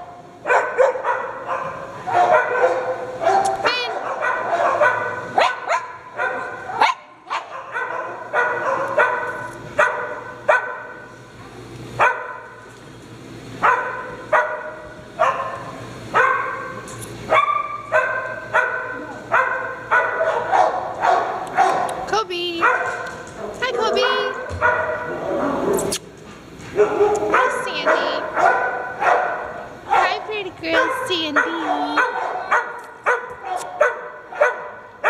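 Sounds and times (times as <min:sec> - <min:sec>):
dog barking: 0:00.5 - 0:11.0, 0:12.0 - 0:12.6, 0:13.6 - 0:22.0, 0:22.6 - 0:23.1, 0:23.8 - 0:25.1, 0:26.7 - 0:34.9.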